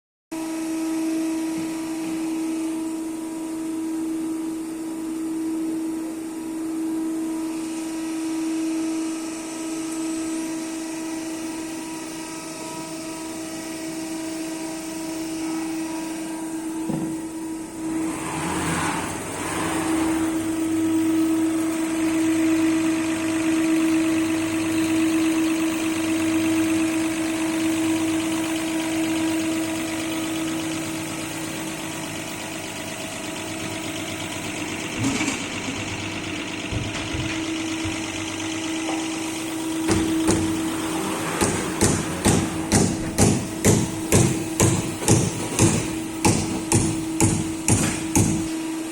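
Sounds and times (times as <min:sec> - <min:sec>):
injector test bench humming: 0:08.9 - 0:48.9.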